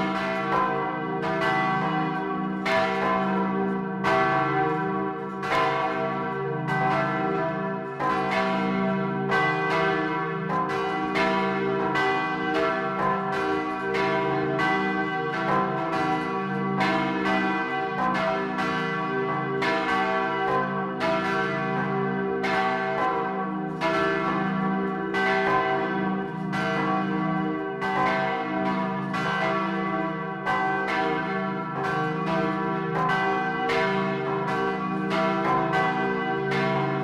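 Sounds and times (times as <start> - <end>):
church bells pealing: 0.0 - 37.0.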